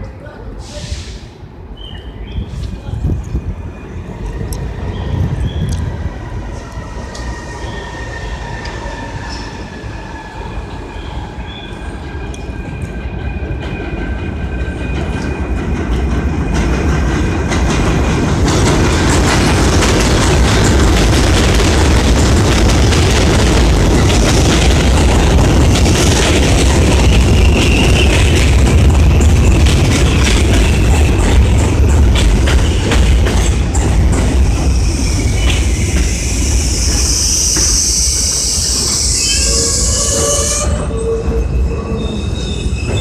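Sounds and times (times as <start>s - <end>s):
subway train passing: 0.0s - 43.0s.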